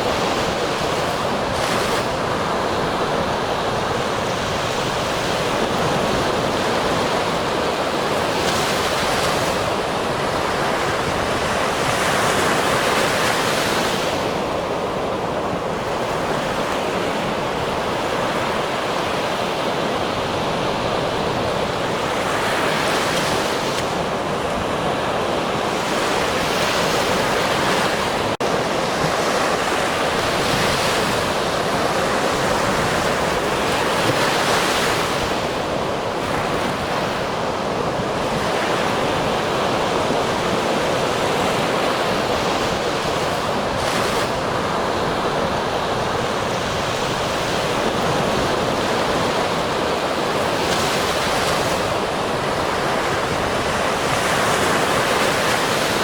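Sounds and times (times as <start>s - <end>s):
ocean surf washing ashore: 0.0s - 56.0s.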